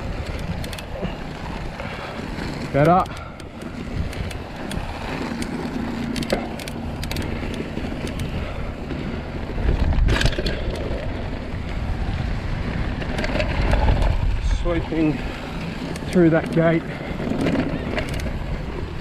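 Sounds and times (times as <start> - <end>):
bike clicks and rattles: 0.0 - 19.0
bike tyre rumble on dirt: 0.0 - 19.0
wind buffeting microphone: 0.0 - 19.0.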